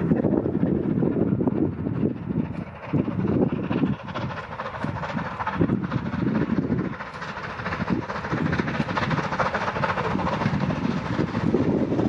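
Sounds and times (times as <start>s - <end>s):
steam locomotive exhaust beats: 0.0s - 12.0s.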